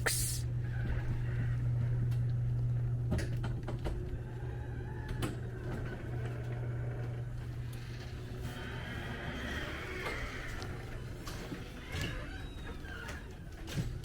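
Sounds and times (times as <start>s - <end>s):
garage door opener motor hum: 0.5s - 14.0s.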